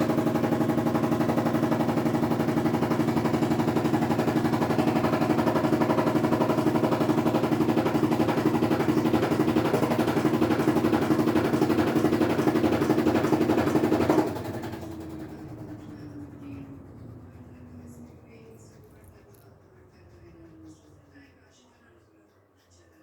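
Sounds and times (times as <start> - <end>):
washing machine drain pump rattling: 0.0 - 20.8
pump winding down hum: 0.0 - 21.6.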